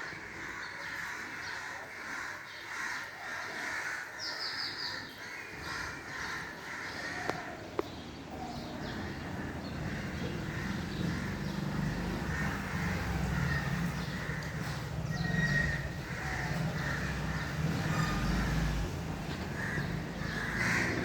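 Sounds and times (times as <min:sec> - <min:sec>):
crows cawing: 0:00.0 - 0:07.9, 0:08.6 - 0:21.0.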